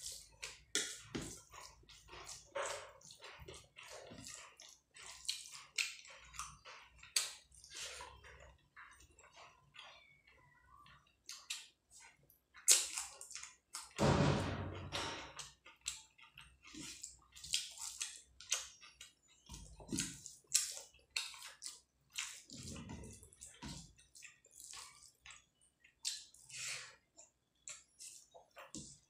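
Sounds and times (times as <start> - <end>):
wet chewing with mouth clicks: 0.0 - 14.0, 15.2 - 29.0.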